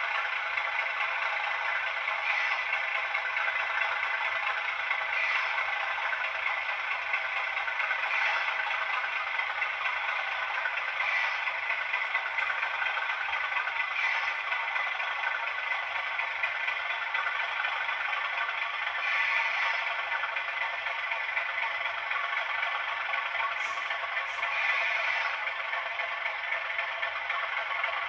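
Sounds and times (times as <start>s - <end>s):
locomotive diesel engine running: 0.0s - 28.0s.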